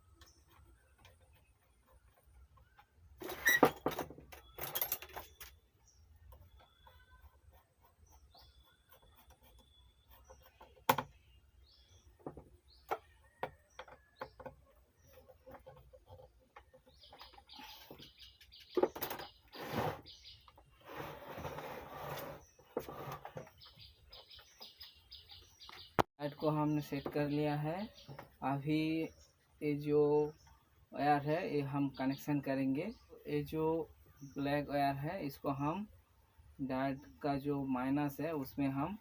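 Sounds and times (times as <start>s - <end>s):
birds chirping faintly: 0.0s - 39.0s.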